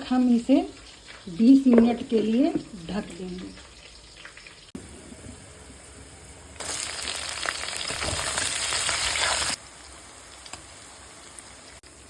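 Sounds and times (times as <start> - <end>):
food frying and sizzling: 0.0 - 12.0.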